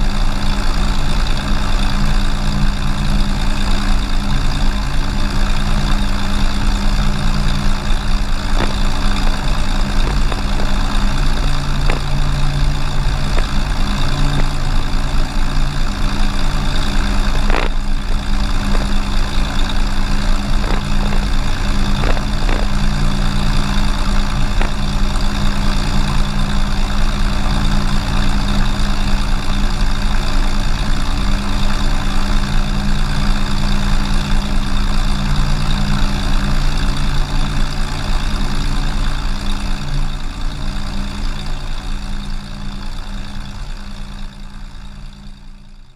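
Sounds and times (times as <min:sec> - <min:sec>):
propeller plane engine running: 0:00.0 - 0:45.9.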